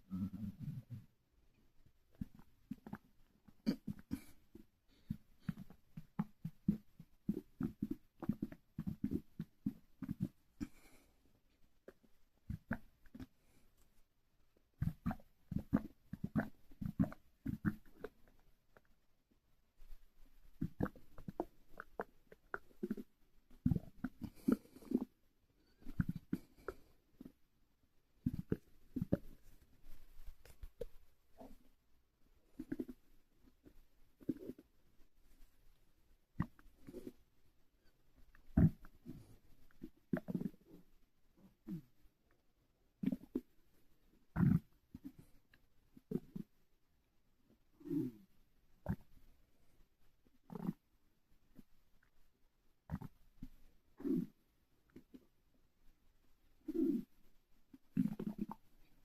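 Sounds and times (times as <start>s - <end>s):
stomach gurgling: 0.0s - 1.2s, 1.9s - 13.6s, 14.6s - 19.0s, 19.7s - 27.5s, 28.1s - 31.8s, 32.4s - 35.6s, 36.3s - 42.3s, 42.9s - 46.6s, 47.5s - 49.2s, 50.2s - 55.5s, 56.5s - 59.0s.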